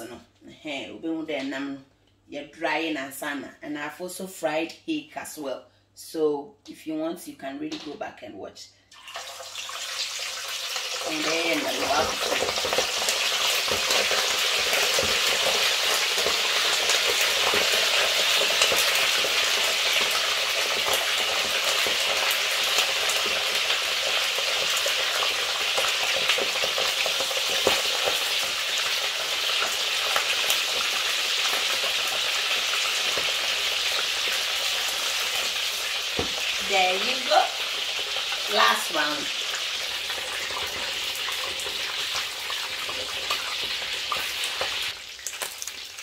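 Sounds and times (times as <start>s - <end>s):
fish frying in hot oil: 9.0s - 46.0s
oil crackles and pops: 9.0s - 46.0s.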